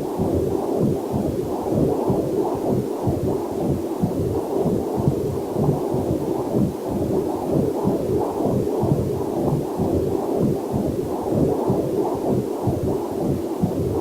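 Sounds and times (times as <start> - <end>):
muffled heartbeat pulses: 0.0 - 14.0.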